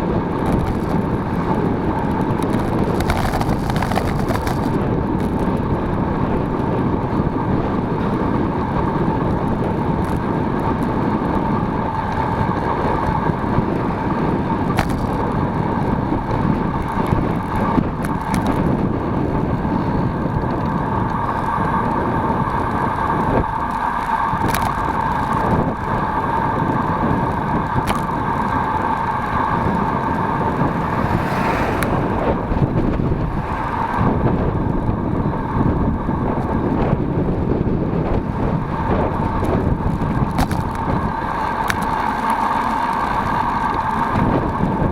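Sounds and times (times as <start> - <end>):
road vehicle droning: 0.0 - 44.9.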